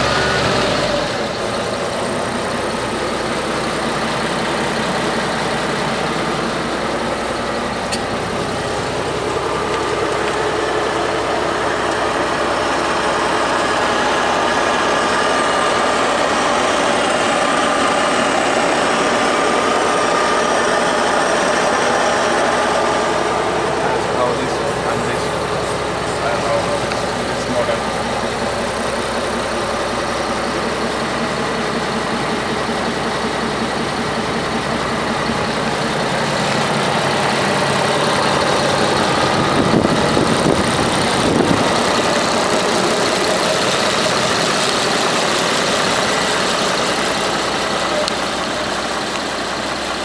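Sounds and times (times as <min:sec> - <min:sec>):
tractor diesel engine idling: 0:00.0 - 0:50.0.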